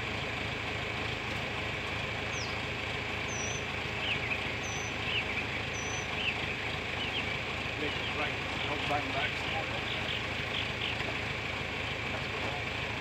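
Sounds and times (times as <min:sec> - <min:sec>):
tractor engine idling: 0:00.0 - 0:13.0
small birds chirping: 0:02.2 - 0:12.6.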